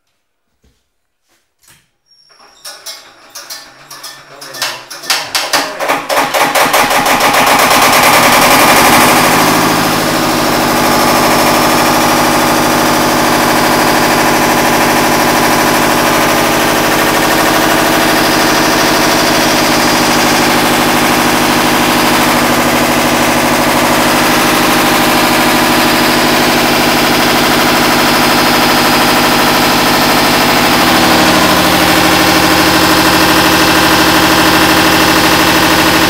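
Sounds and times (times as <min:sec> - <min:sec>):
diesel generator engine running: 0:05.8 - 0:36.0.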